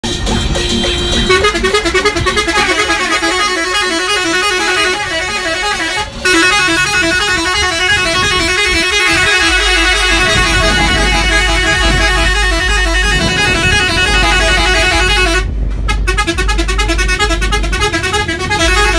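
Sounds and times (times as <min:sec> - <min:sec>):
musical air horns playing a tune: 0:00.0 - 0:18.9.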